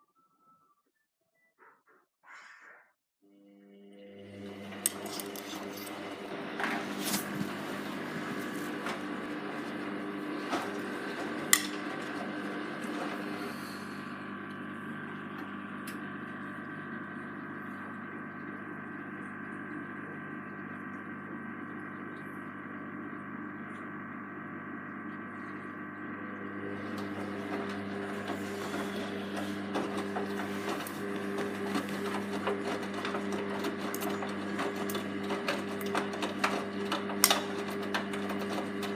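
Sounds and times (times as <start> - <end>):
washing machine motor whine: 3.2 - 38.9.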